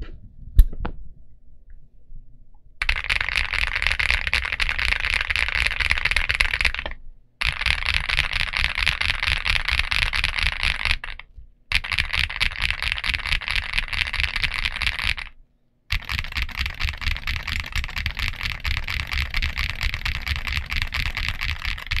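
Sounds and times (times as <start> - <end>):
mechanical keyboard typing: 2.8 - 22.0.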